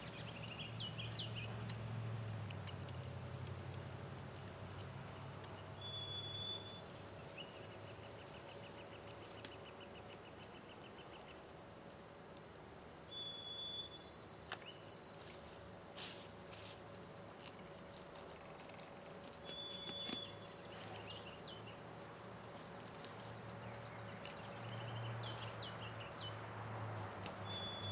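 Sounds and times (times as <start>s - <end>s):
songbird singing: 0.0s - 27.9s.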